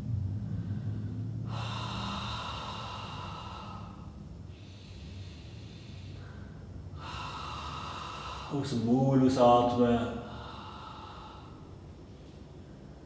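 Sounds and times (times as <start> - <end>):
man breathing deeply: 0.2 - 13.0.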